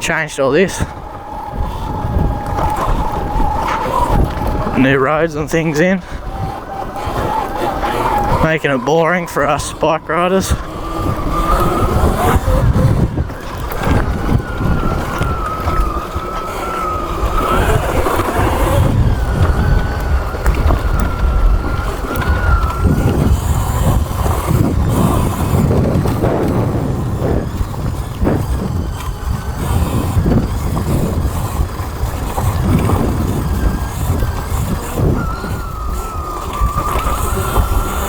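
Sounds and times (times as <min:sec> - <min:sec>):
bumpy rumble: 0:00.0 - 0:38.0
electric motor whine: 0:00.0 - 0:38.0
wind noise: 0:00.0 - 0:38.0.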